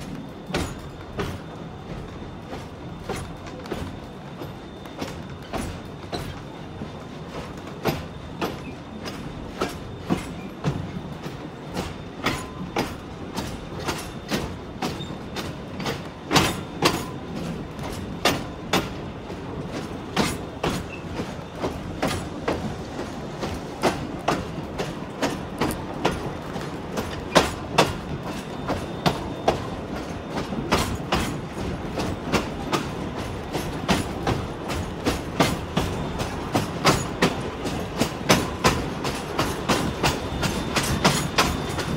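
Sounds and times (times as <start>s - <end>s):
train carriage rumble: 0.0s - 41.9s
wheels clicking over rail joints: 0.0s - 41.9s.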